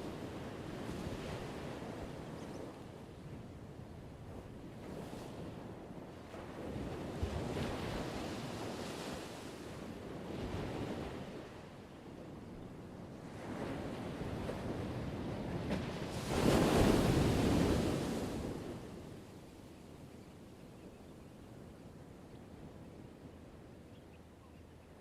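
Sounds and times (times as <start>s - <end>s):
waves breaking and washing in: 0.0s - 25.0s.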